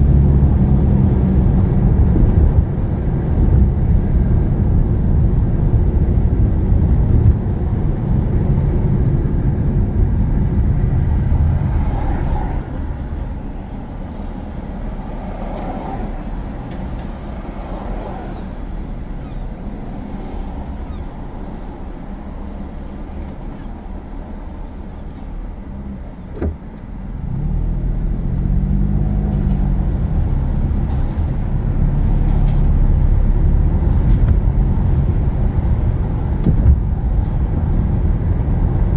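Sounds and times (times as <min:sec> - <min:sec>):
car interior road noise: 0:00.0 - 0:38.9.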